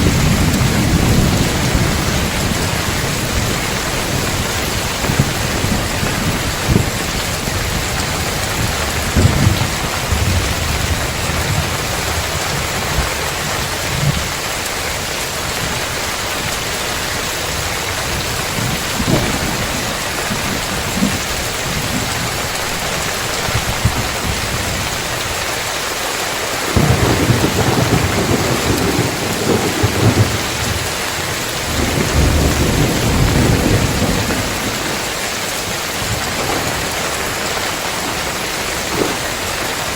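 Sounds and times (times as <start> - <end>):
heavy rain on roof tiles: 0.0 - 39.9
thunder rumbling: 0.0 - 39.9.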